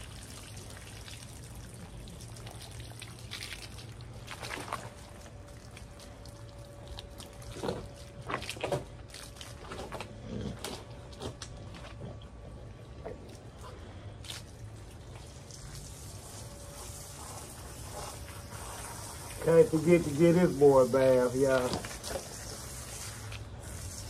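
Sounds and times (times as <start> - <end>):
water pouring and splashing: 0.0 - 10.0, 14.2 - 24.0.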